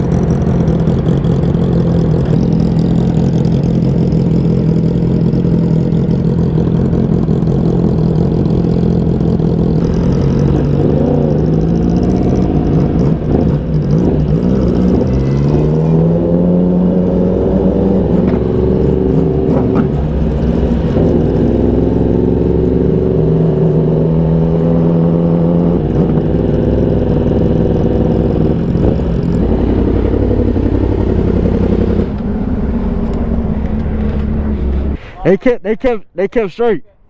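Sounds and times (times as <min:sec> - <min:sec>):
motorcycle engine idling and revving: 0:00.0 - 0:35.0.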